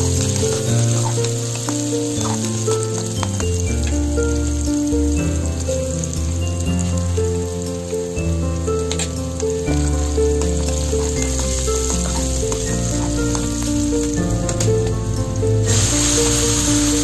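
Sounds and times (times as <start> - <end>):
background music with bass: 0.0 - 17.0
vegetables sizzling in oil: 0.0 - 17.0.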